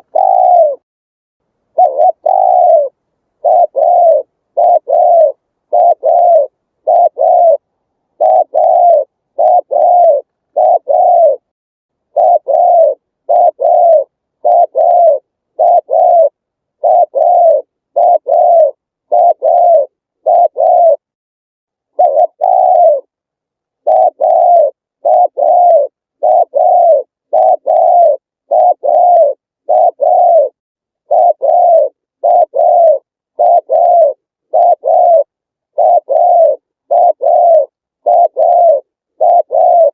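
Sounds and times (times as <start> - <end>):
dove cooing: 0.0 - 0.8, 1.7 - 11.5, 12.1 - 21.1, 21.9 - 23.1, 23.8 - 39.9.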